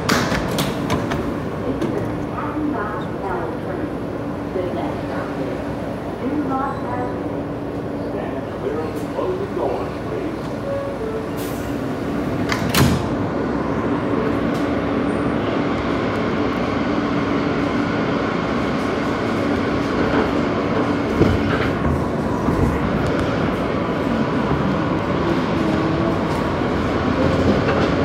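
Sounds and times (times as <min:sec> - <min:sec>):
train doors closing: 0:00.0 - 0:28.0
train running on rails: 0:00.0 - 0:28.0.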